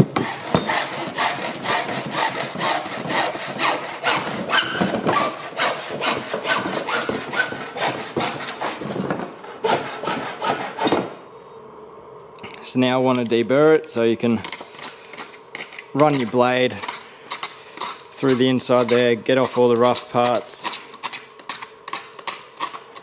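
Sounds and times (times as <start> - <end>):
hacksaw cutting plastic pipe: 0.0 - 11.2, 14.5 - 23.0.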